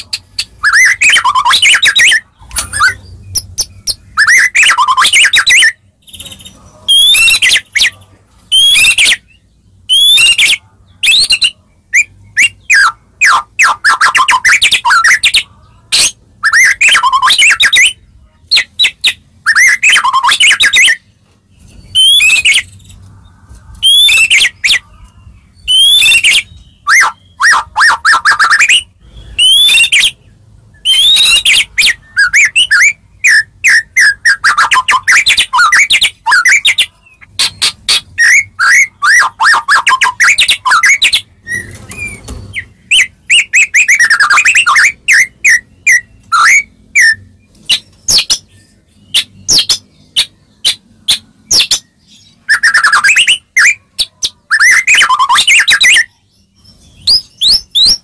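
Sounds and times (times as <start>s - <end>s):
songbird singing whistled phrases: 0.0s - 21.0s, 21.8s - 23.0s, 23.8s - 24.8s, 25.5s - 58.0s.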